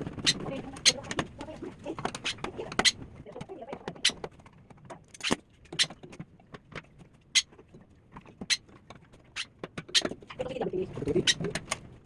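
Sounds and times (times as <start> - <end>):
tools clicking and tapping: 0.2 - 10.3.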